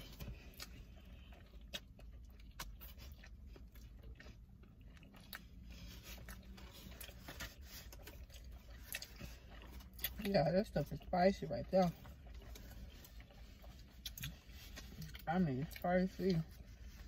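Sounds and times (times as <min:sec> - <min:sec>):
person chewing food: 0:00.0 - 0:11.1, 0:11.7 - 0:17.0
low steady hum: 0:00.0 - 0:17.0.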